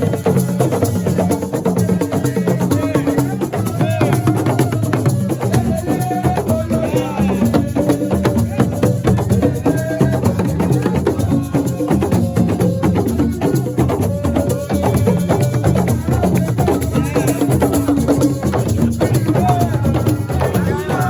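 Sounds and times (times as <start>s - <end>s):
fast drums and percussion music: 0.0s - 21.0s.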